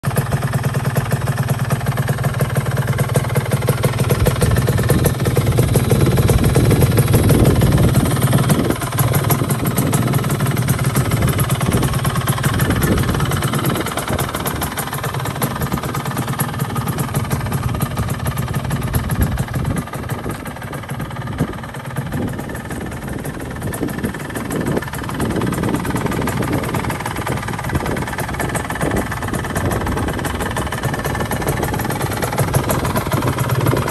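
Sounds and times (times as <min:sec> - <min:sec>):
two-stroke motorcycle engine running: 0:00.0 - 0:33.9.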